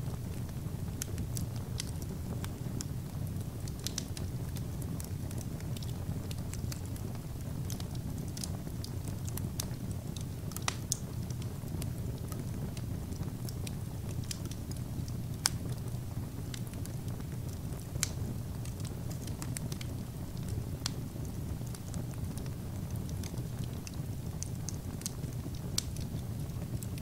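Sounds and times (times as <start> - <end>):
fireplace fire crackling: 0.0 - 27.0.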